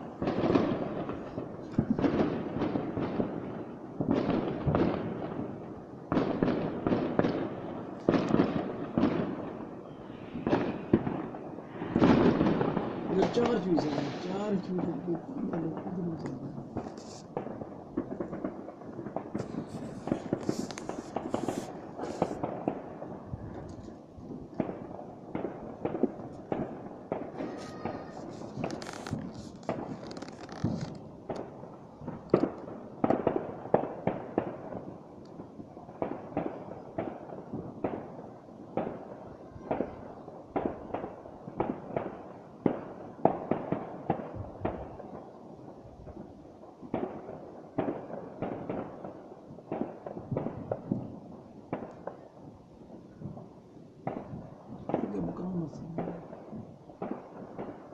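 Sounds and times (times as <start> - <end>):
fireworks and firecrackers crackling: 0.0 - 57.9
loud fireworks reports: 0.0 - 57.9.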